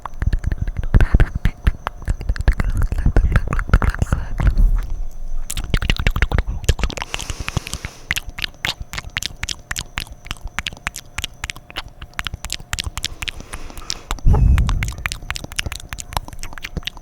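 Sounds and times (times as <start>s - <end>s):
tongue clicks and lip smacks: 0.0s - 4.6s, 5.4s - 17.0s.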